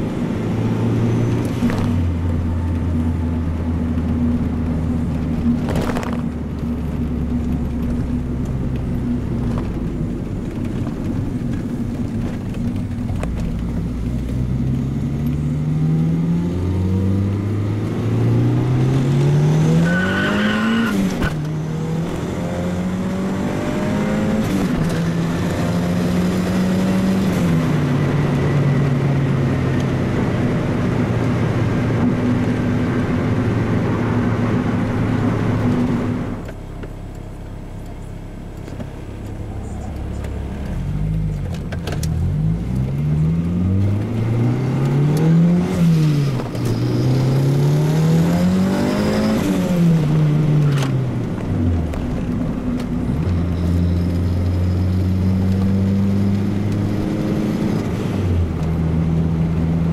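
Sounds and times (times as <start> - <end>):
turbocharged car engine: 0.0 - 59.9.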